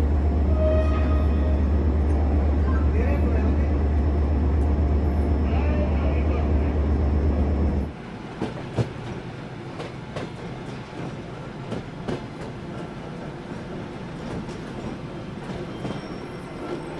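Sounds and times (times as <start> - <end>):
train carriage rumble: 0.0 - 16.9.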